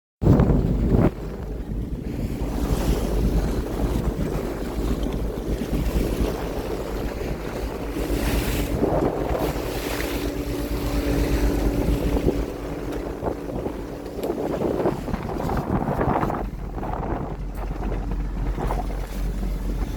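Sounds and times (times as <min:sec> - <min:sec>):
low boat rumble: 0:00.2 - 0:19.9
wind buffeting microphone: 0:00.2 - 0:19.9
rushing water: 0:00.7 - 0:19.9.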